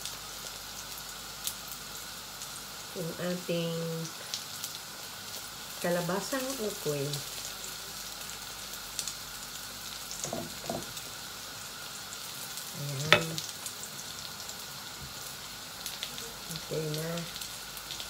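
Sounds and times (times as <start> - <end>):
fritter sizzling in oil: 0.0 - 18.0.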